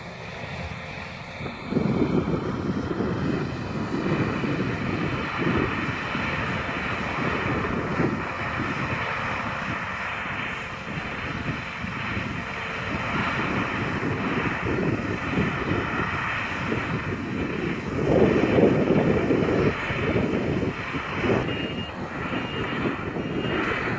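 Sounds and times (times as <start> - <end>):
distant farm machinery running: 0.0 - 23.9
wind buffeting microphone: 0.0 - 23.9.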